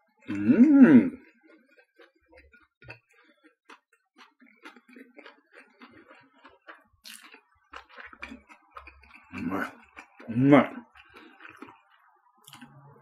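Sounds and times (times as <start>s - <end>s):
chewing crusty bread: 0.0s - 13.0s
wet mouth clicks: 0.2s - 12.8s.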